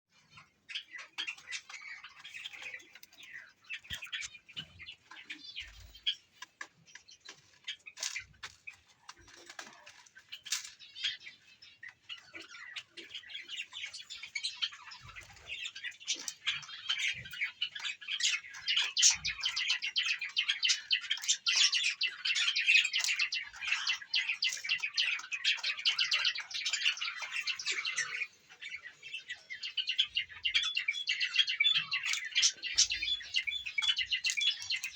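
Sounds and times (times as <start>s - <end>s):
birds chirping and chattering: 0.1s - 34.9s.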